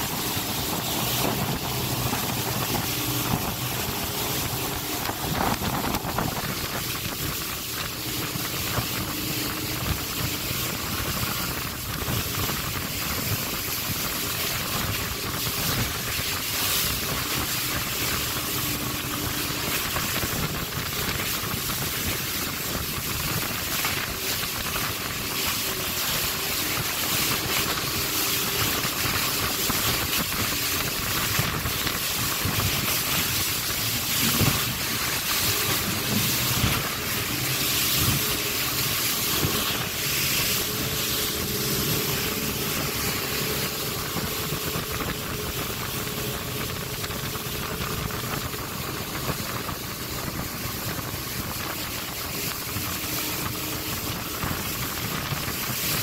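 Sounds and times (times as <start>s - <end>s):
boat engine running under load: 0.0s - 56.0s
rushing white water: 0.0s - 56.0s
spray splashing against hull: 0.0s - 56.0s
wind on microphone: 0.0s - 56.0s.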